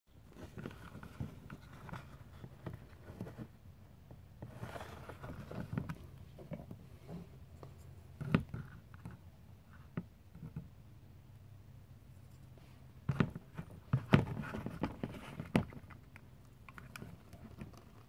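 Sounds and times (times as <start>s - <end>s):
faint low hum: 0.1s - 18.0s.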